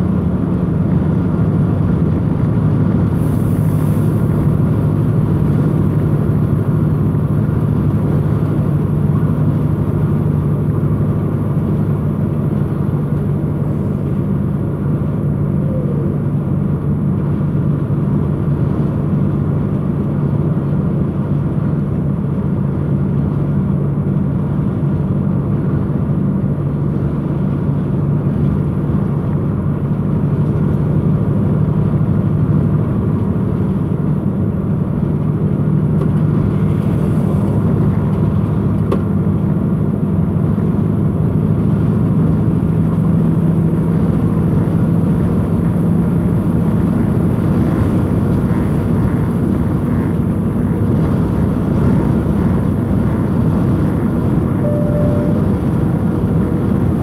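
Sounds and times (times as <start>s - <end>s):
lorry engine drone: 0.0s - 57.0s
tyre road noise: 0.0s - 57.0s.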